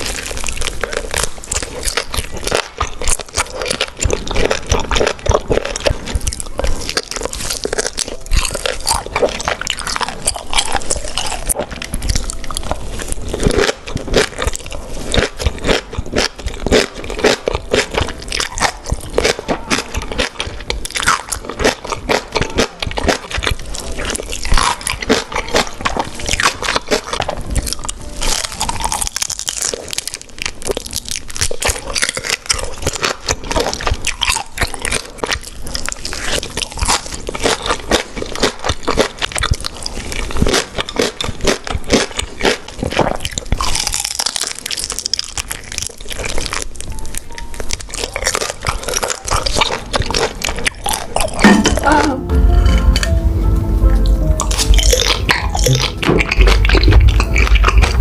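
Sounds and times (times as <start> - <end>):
biting and chewing: 0.0 - 51.9, 54.4 - 58.0.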